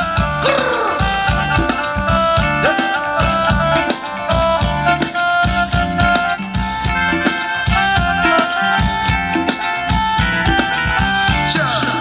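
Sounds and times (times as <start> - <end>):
live band over loudspeakers: 0.0 - 12.0
reedy melody line: 0.0 - 12.0
steady drum beat: 0.0 - 12.0.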